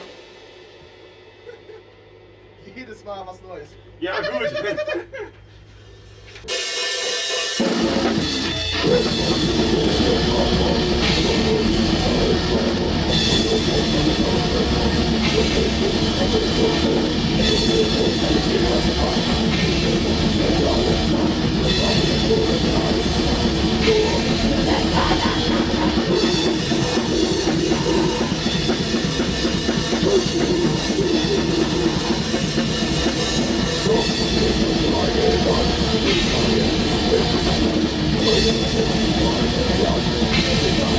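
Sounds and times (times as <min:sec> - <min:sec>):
drum kit: 0:00.0 - 0:02.8, 0:05.6 - 0:40.9
electric guitar: 0:07.6 - 0:40.9.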